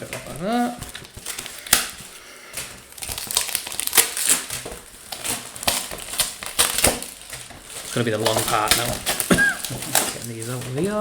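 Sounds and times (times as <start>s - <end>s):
packaging crinkling and crackling: 0.0s - 11.0s.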